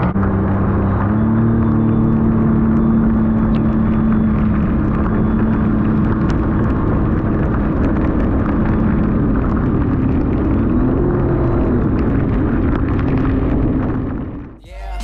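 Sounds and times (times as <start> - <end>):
watercraft engine running: 0.0 - 14.5.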